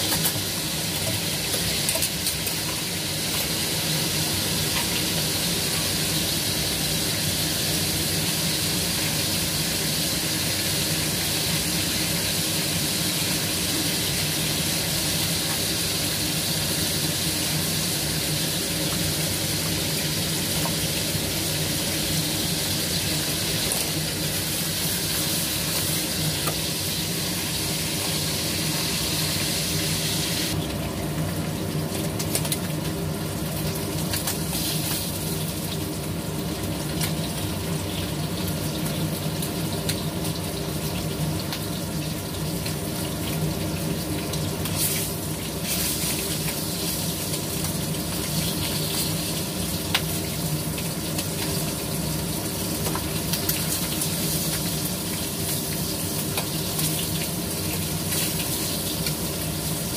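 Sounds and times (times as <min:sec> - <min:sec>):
fish sizzling in hot oil: 0:00.0 - 0:59.9
range hood fan hum: 0:00.0 - 0:59.9.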